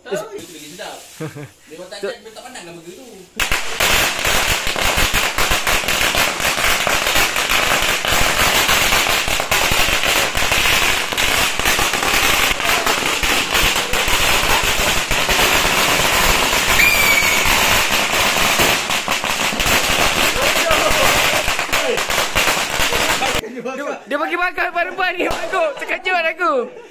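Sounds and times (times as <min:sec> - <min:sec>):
firecrackers crackling: 0:00.4 - 0:23.4, 0:25.0 - 0:26.2.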